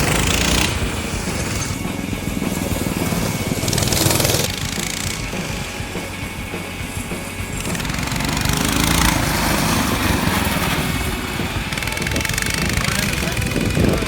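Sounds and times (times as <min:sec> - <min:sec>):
mini bike engines racing: 0:00.0 - 0:14.0.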